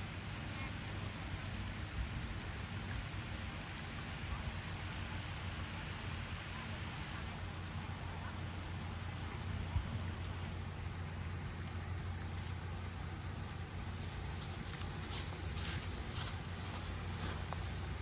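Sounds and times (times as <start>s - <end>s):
low rumble and hum: 0.0s - 18.0s.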